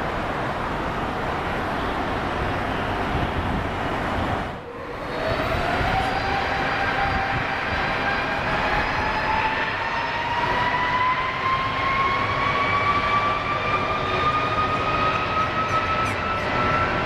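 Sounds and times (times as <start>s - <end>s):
jet engines rumbling and whining: 0.0s - 17.0s.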